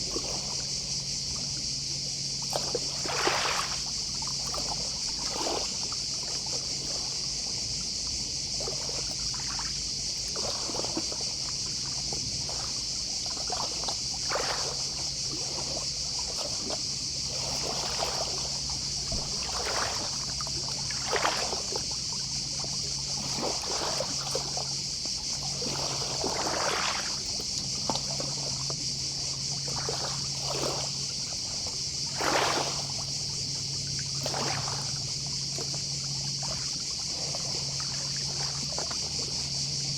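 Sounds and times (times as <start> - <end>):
distant cicadas: 0.0 - 39.9
waves lapping at shore: 0.0 - 39.9.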